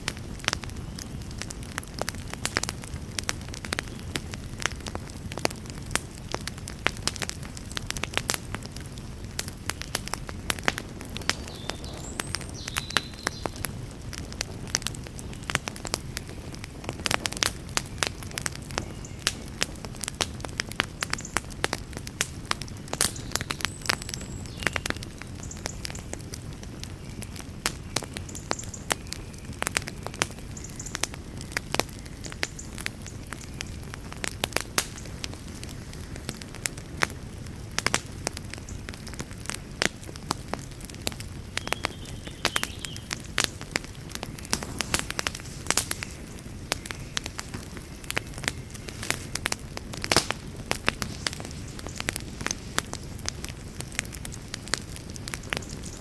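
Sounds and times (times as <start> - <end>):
low rush of fire: 0.0 - 56.0
wood fire crackling and popping: 0.0 - 56.0.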